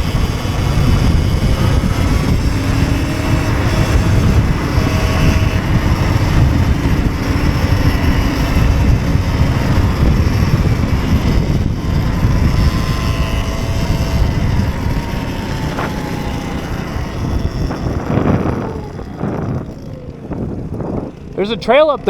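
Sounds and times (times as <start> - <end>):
electric motor whine: 0.0 - 22.0
wind buffeting microphone: 0.0 - 22.0.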